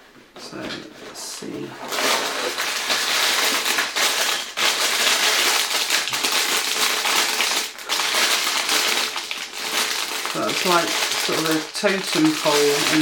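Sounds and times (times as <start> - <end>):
plastic bags crinkling: 1.5 - 13.0.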